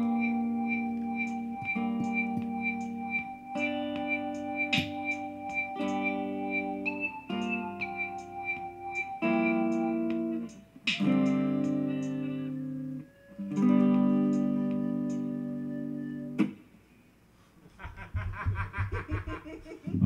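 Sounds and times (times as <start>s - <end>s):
guitar chords ringing: 0.0s - 16.6s.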